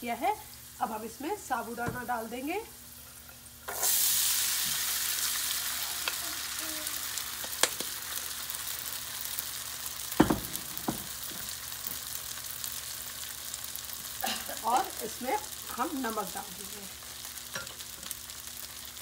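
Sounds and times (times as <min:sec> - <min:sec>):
sizzling in hot oil: 0:00.0 - 0:19.0.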